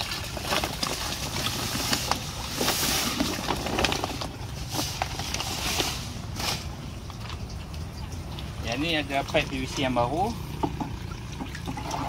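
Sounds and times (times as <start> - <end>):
powder pouring into water: 0.0 - 12.0.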